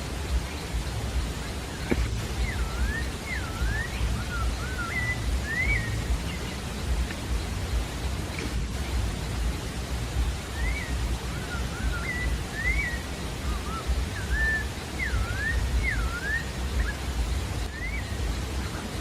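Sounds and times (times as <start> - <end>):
low rumble and hiss: 0.0 - 19.0
bird singing whistled notes: 0.2 - 19.0.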